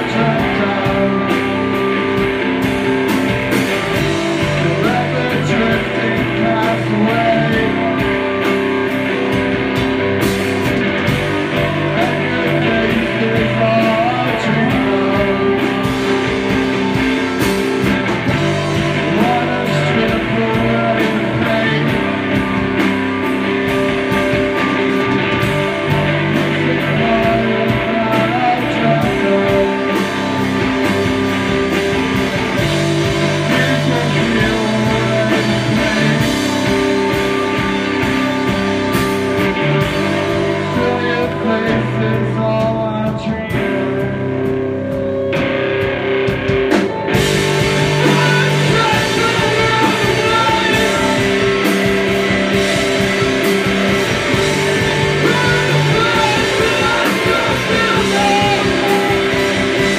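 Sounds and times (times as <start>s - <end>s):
drum kit: 0.0s - 59.9s
electric guitars: 0.0s - 59.9s
rock band playing live: 0.0s - 59.9s.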